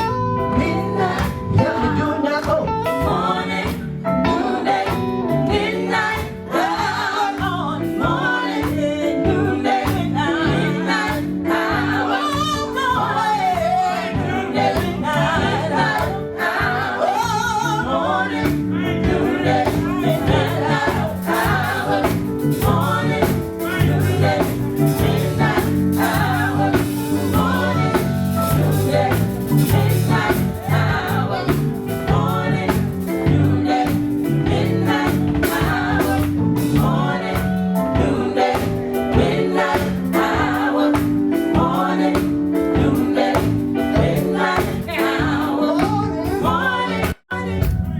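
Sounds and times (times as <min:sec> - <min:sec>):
group vocals: 0:00.0 - 0:47.9
lead singer: 0:00.0 - 0:47.9
steady drum beat: 0:03.0 - 0:47.9.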